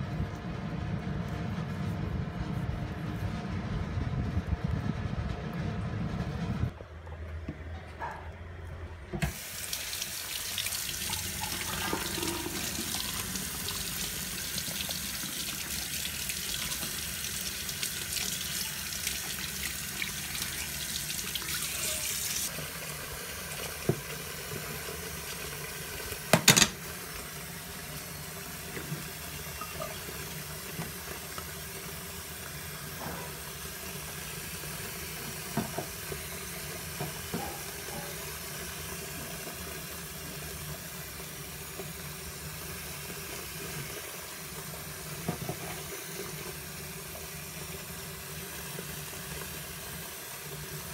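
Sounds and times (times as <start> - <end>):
tap water running into sink: 9.2 - 50.9.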